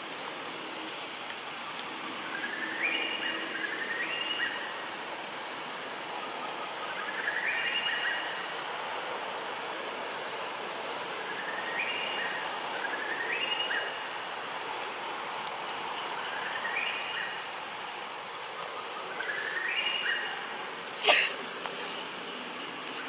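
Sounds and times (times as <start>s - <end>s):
insects humming: 0.0s - 23.0s.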